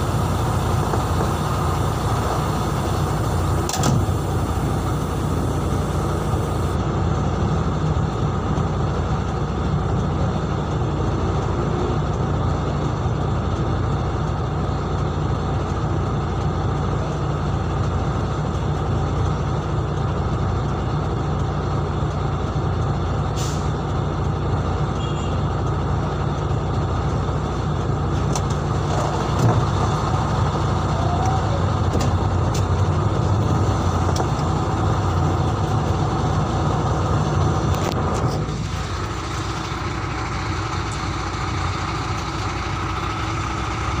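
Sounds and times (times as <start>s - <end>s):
road noise: 0.0s - 44.0s
truck engine running: 0.0s - 44.0s.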